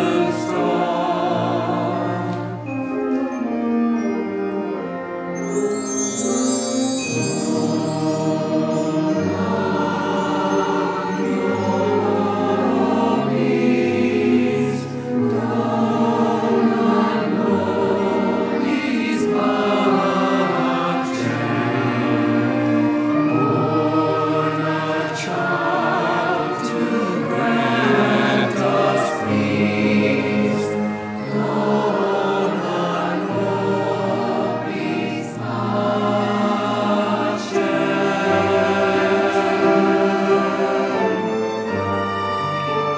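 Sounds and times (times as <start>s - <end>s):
choir singing: 0.0s - 42.9s
orchestra playing: 0.0s - 42.9s.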